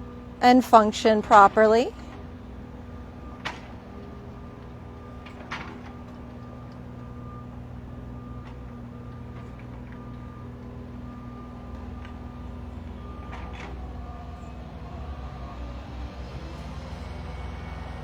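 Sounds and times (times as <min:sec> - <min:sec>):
construction machinery engine hum: 0:00.0 - 0:18.0.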